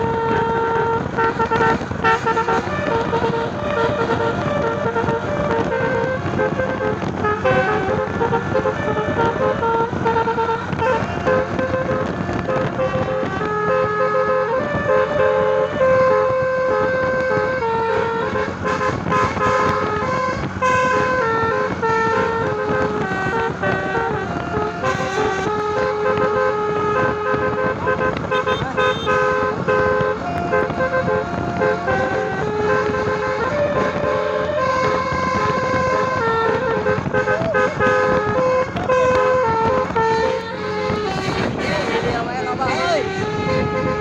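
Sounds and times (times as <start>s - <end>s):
bus engine and road noise: 0.0s - 44.0s
musical air horn melody: 0.0s - 44.0s.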